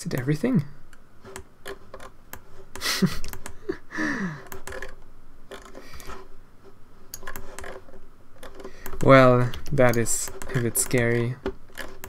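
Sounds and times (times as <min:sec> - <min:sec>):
keyboard and mouse clicks: 0:00.1 - 0:03.6, 0:04.4 - 0:06.2, 0:07.1 - 0:12.0.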